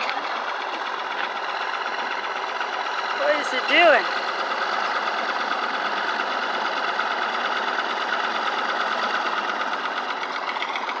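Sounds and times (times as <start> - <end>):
bulldozer engine running: 0.0 - 11.0.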